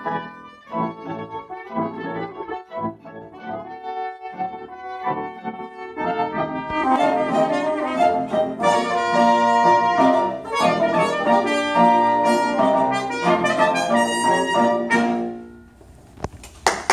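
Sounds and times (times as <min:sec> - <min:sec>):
chamber ensemble playing: 0:00.0 - 0:15.6.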